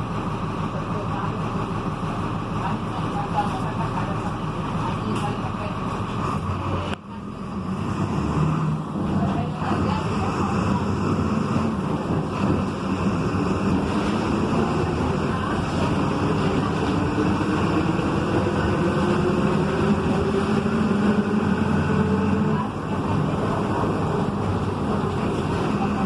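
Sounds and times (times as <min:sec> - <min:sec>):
bus drivetrain droning: 0:00.0 - 0:26.0.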